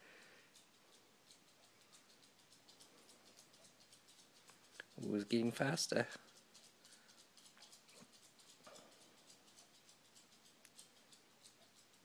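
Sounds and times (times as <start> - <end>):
dog claws clicking on wood floor: 0.6 - 12.0.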